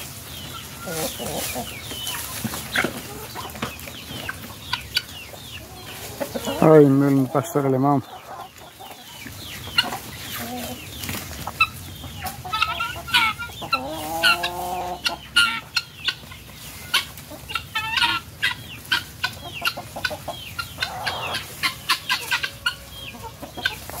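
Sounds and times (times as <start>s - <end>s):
chickens and guinea fowl calling: 0.0s - 24.0s.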